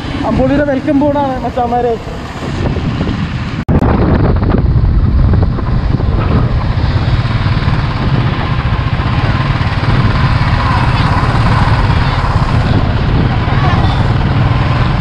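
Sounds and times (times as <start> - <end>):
motorcycle engine running: 0.0 - 15.0
road noise: 0.0 - 15.0
wind noise: 0.0 - 15.0.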